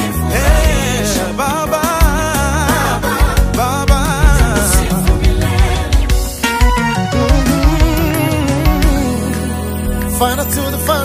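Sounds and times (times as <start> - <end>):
gospel instrumental music: 0.0 - 11.0.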